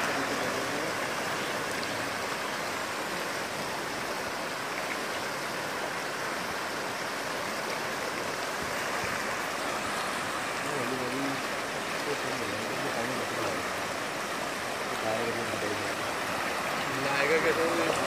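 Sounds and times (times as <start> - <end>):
river flowing over stones: 0.0 - 18.0.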